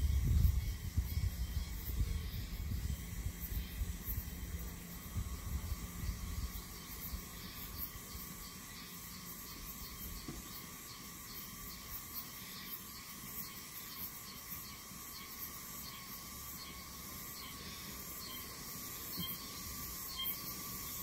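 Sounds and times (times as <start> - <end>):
insects chirping in pulses: 0.0 - 21.0.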